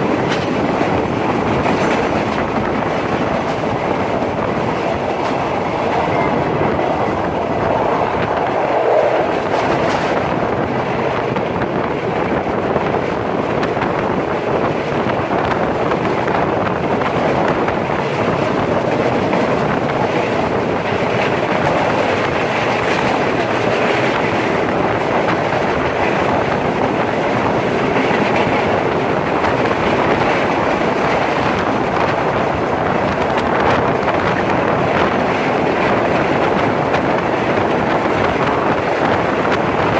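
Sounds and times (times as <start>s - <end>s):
train wheels on track: 0.0s - 39.9s.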